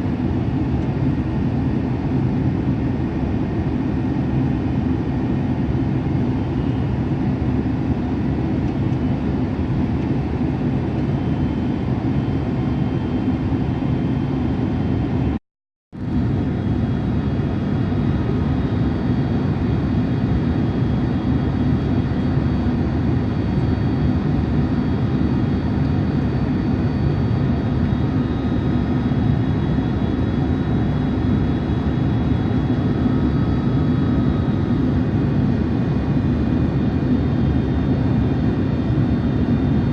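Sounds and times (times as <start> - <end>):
constant low hum: 0.0 - 15.4, 16.0 - 39.9
jet cabin roar: 0.0 - 15.4, 16.0 - 39.9.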